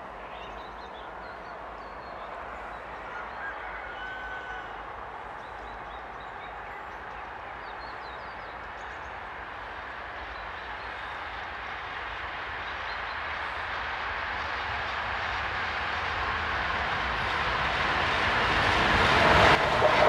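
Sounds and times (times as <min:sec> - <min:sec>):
distant train rushing: 0:00.0 - 0:20.0.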